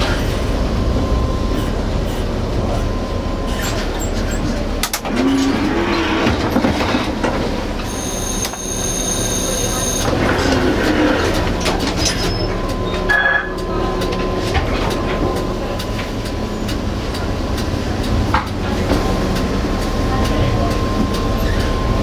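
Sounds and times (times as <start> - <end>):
tram rumble: 0.0 - 22.0.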